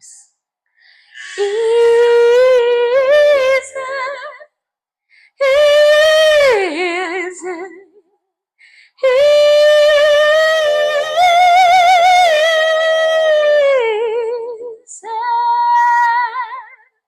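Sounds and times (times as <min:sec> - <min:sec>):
woman singing unaccompanied: 0:01.2 - 0:04.5, 0:05.4 - 0:08.0, 0:09.0 - 0:16.8.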